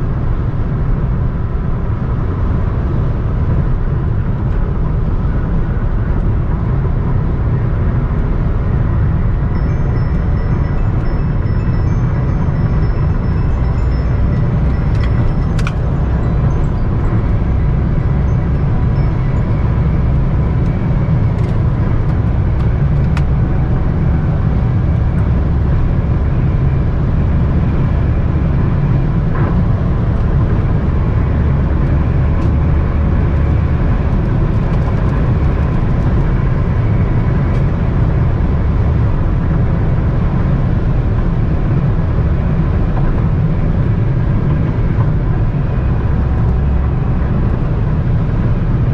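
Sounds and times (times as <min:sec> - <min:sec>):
car interior road rumble: 0:00.0 - 0:48.9.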